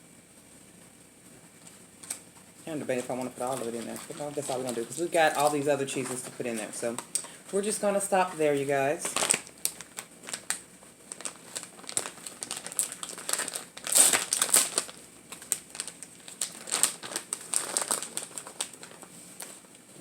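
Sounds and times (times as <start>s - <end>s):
plastic wrapping crinkling: 1.5s - 20.0s.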